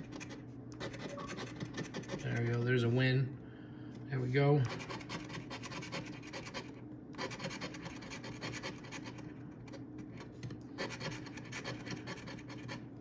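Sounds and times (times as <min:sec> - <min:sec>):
coin scratching lottery ticket: 0:00.0 - 0:02.5, 0:04.6 - 0:12.9.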